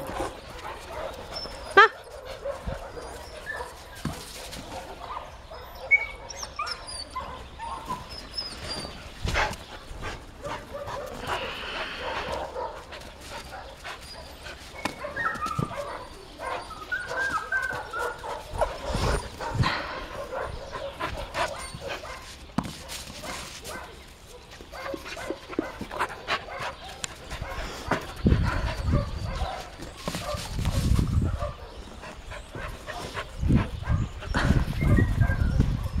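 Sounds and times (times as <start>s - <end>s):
dogs whining and yipping: 0.0s - 9.8s, 10.8s - 22.2s, 26.3s - 36.0s.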